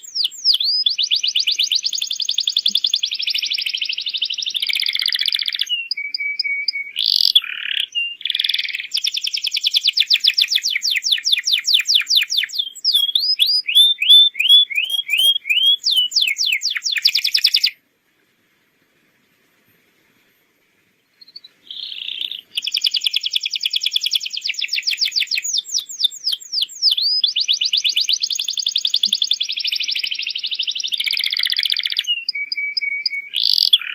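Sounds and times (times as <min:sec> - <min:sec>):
canary singing trills: 0:00.0 - 0:17.8, 0:21.0 - 0:33.9.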